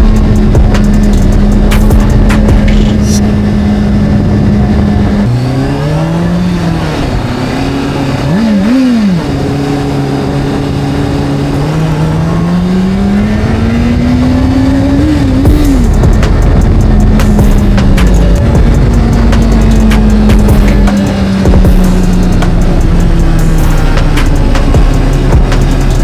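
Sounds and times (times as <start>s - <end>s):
video game motorcycle revving: 0.0s - 26.0s.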